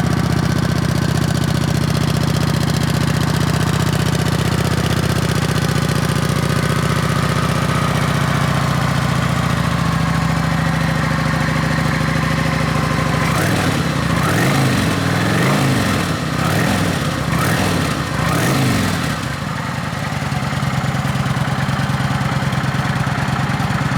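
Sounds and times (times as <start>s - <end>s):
motorcycle engine idling and revving: 0.0s - 23.9s.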